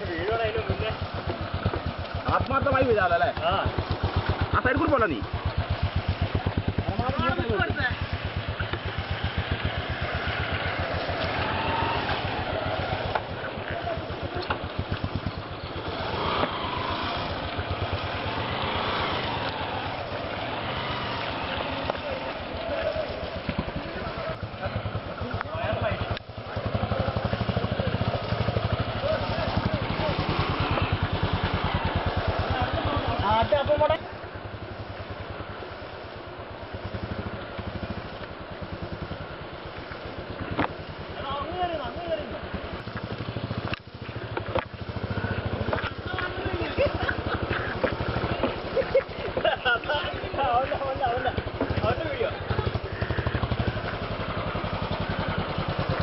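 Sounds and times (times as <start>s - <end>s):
motorcycle exhaust putt-putt: 0.0s - 56.0s.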